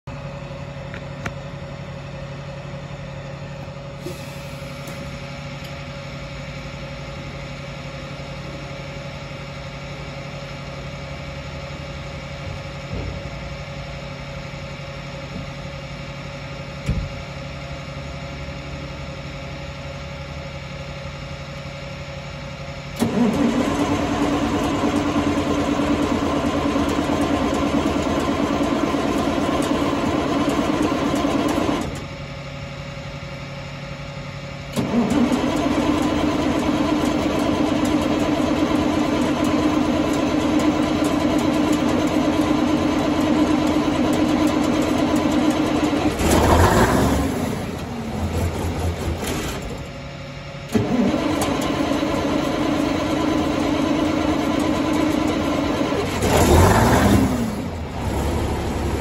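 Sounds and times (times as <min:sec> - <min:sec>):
diesel engine starting and running: 0:00.0 - 0:59.0.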